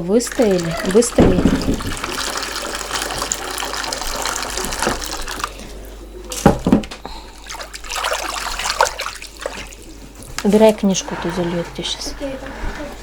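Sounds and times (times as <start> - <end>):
tap water running into sink: 0.0 - 10.9.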